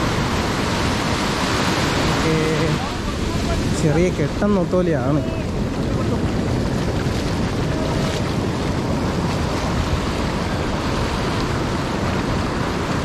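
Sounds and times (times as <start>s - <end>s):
sea surf washing: 0.0s - 13.0s
wind buffeting microphone: 0.0s - 13.0s.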